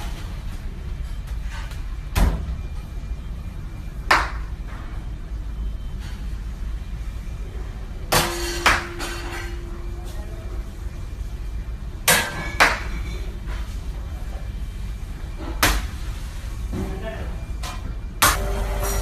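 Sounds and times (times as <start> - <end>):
low kitchen hum: 0.0 - 19.0.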